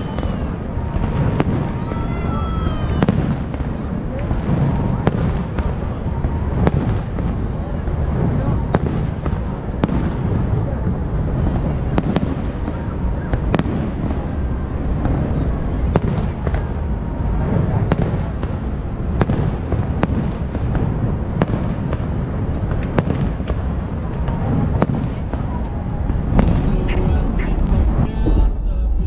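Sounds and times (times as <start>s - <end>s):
fireworks bursting bangs: 0.0s - 29.0s
low rumble: 0.0s - 29.0s.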